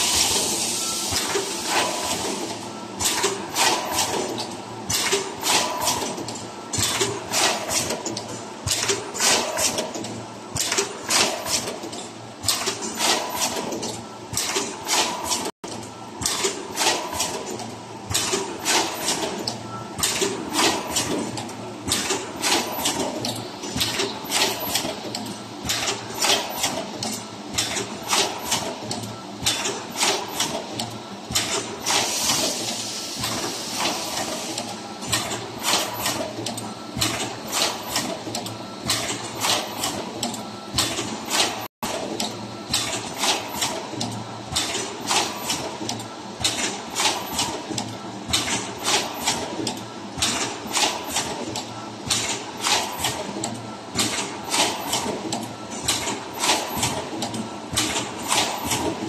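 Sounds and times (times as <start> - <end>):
machine clicks and knocks: 1.1 - 59.0.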